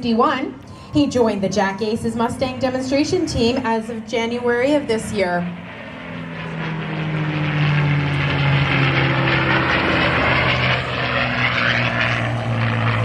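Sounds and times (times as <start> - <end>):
propeller plane engine roaring by: 0.0 - 13.0.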